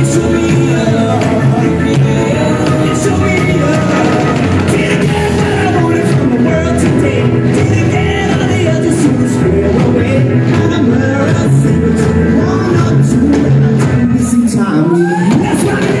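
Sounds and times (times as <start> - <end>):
rock and roll band playing: 0.0 - 16.0.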